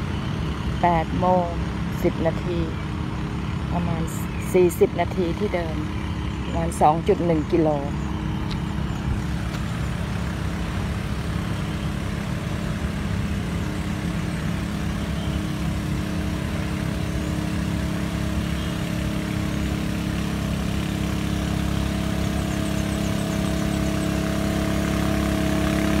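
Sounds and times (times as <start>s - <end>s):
low traffic rumble: 0.0s - 26.0s
vehicle engine hum: 0.0s - 26.0s.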